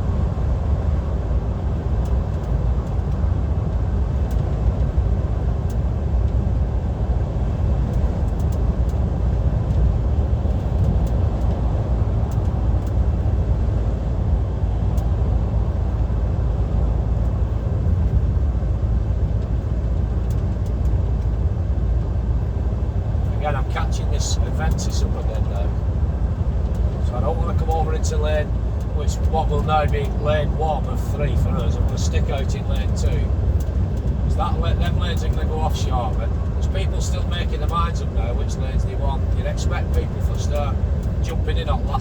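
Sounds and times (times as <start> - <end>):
lorry in-cab engine drone: 0.0 - 42.0
tyre-on-road noise: 0.0 - 42.0.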